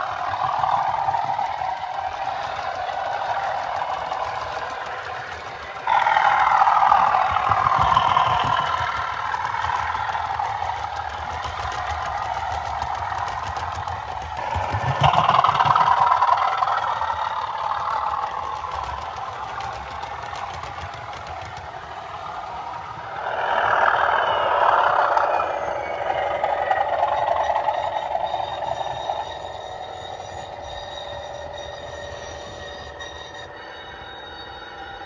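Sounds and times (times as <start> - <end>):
diesel engine sound through small speaker: 0.0 - 35.0.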